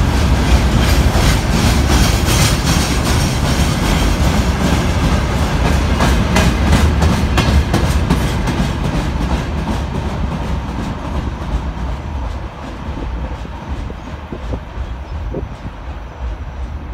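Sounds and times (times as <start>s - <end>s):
train wheels clattering over rails: 0.0s - 16.9s.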